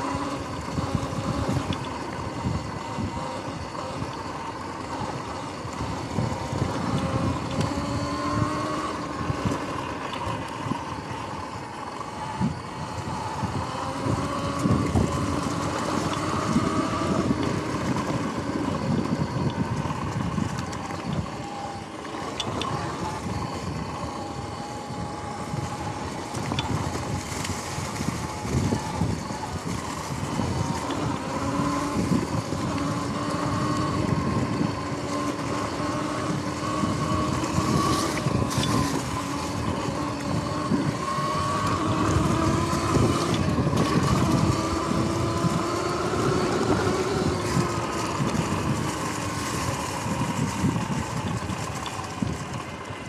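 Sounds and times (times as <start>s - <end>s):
electric motor whine: 0.0s - 53.0s.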